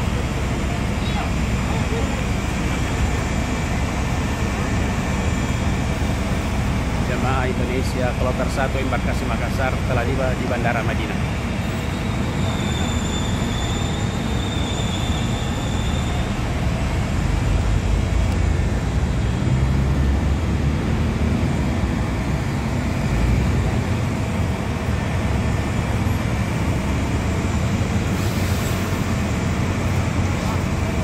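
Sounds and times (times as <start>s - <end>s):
engines roaring: 0.0s - 31.0s.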